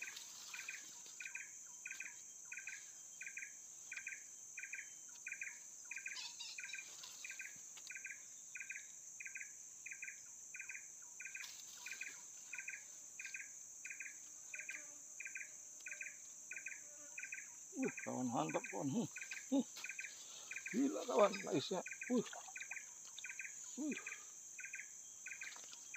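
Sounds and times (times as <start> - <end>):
high-pitched insect drone: 0.0 - 25.9
insect chirping: 0.0 - 25.9.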